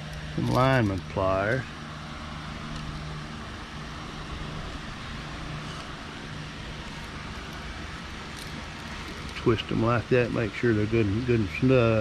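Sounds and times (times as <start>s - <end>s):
outdoor background hiss and hum: 0.0s - 12.0s.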